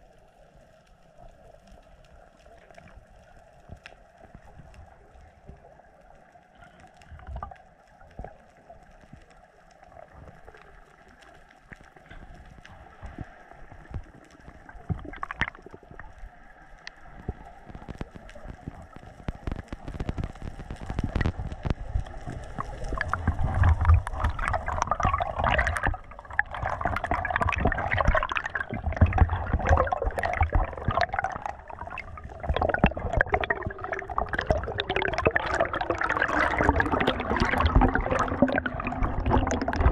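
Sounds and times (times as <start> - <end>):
faint underwater crackle: 0.0 - 39.9
underwater gurgling and bubbling: 0.0 - 39.9.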